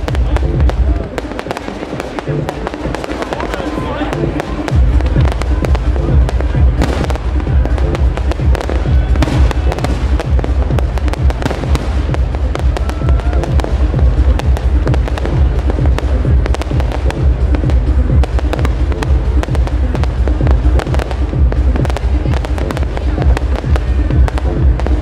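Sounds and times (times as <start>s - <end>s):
electronic dance music: 0.0s - 25.0s
fireworks crackling and popping: 0.0s - 25.0s.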